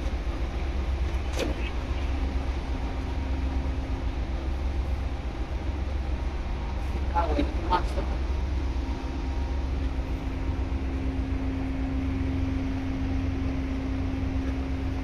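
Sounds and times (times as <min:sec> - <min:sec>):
faint steady hum: 0:00.0 - 0:15.0
low machinery rumble: 0:00.0 - 0:15.0.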